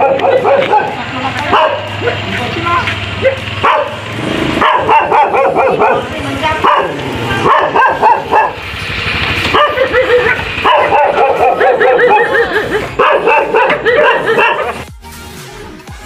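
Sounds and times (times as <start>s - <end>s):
dogs barking and yipping: 0.0s - 14.9s.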